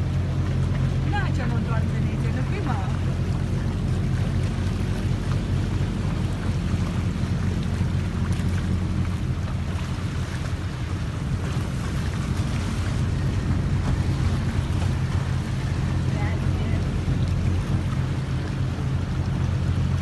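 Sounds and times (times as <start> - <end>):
boat engine rumbling: 0.0 - 20.0
wind: 0.0 - 20.0.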